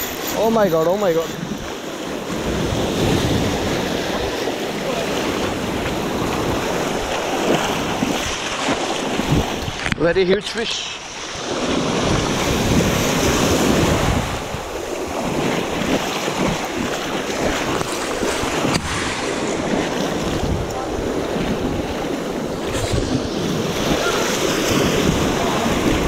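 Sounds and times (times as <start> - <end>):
wind buffeting microphone: 0.0 - 10.3, 11.2 - 26.0
surf breaking over rocks: 0.0 - 26.0.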